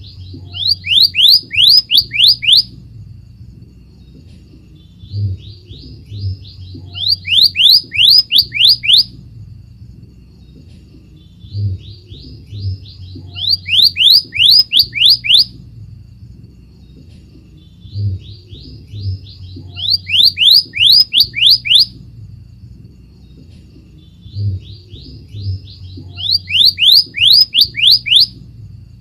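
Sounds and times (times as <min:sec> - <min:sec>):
bird whistling song: 0:00.0 - 0:02.8, 0:04.0 - 0:09.2, 0:10.4 - 0:15.6, 0:16.8 - 0:22.0, 0:23.2 - 0:28.4.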